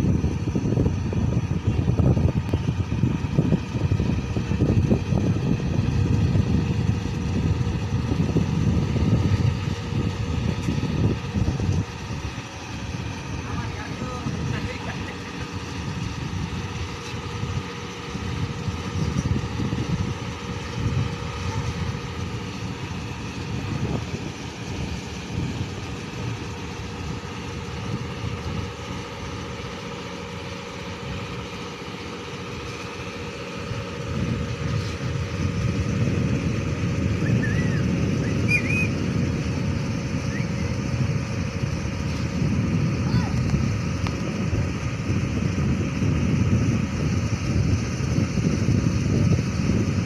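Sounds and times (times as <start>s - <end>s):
boat engine rumbling: 0.0s - 50.0s.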